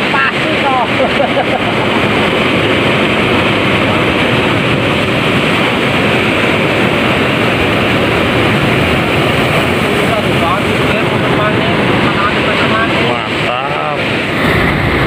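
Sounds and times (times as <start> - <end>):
surf washing over boulders: 0.0 - 15.0.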